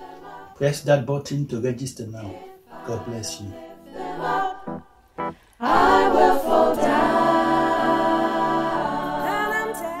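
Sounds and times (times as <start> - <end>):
choir singing held chords: 0.0 - 1.1, 2.2 - 10.0.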